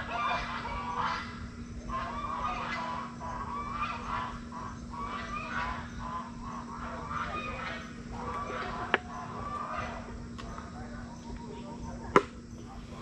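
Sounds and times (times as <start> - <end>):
farm fowl calling: 0.0 - 12.0.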